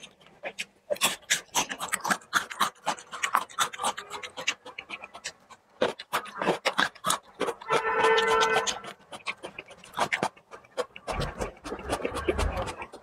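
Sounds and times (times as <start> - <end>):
close chewing crunches: 0.0 - 13.0.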